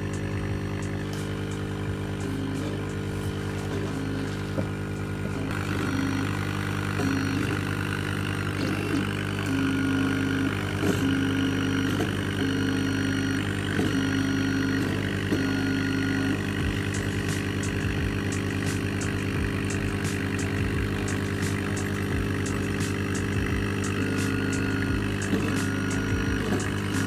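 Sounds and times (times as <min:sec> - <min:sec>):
laser cutter humming: 0:00.0 - 0:27.0
tone switching on and off: 0:00.0 - 0:27.0.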